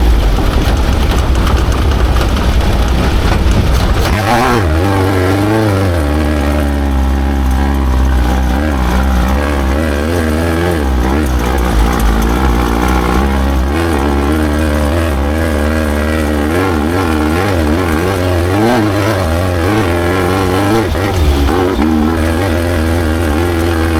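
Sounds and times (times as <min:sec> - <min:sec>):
dense rush of noise: 0:00.0 - 0:23.9
race vehicle engine revving: 0:00.0 - 0:23.9.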